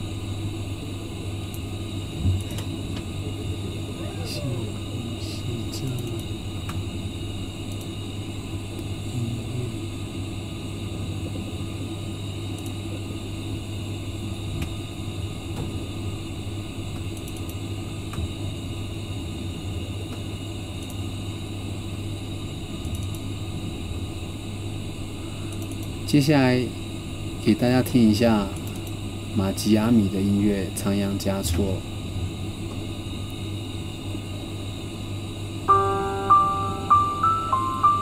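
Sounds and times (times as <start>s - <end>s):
train running rumble inside carriage: 0.0s - 25.0s, 25.6s - 36.8s.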